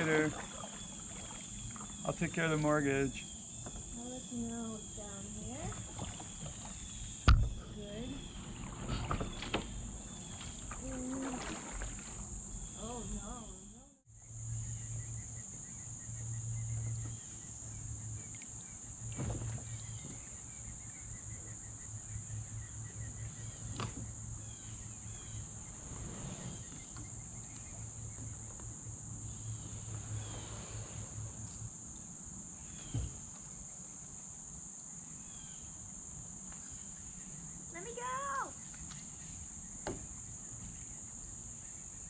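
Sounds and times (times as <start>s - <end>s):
crickets and insects chirping: 0.0s - 42.0s.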